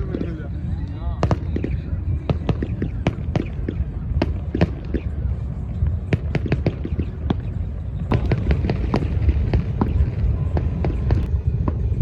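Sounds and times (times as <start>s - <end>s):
fireworks popping and crackling: 0.0s - 12.0s
low rumble: 0.0s - 12.0s.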